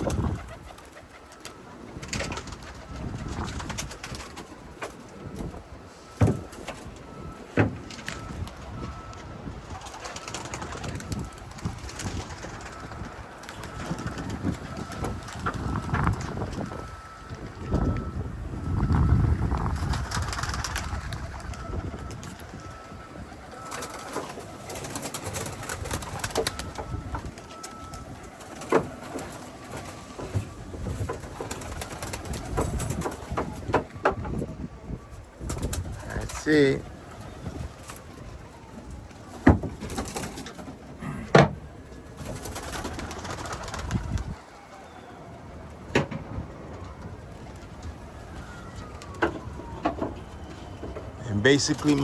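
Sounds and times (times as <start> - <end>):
pigeons cooing: 0.0 - 34.5, 35.1 - 45.7, 46.5 - 52.0
wings fluttering and scuffling: 0.0 - 34.5, 35.1 - 41.0, 41.7 - 52.0.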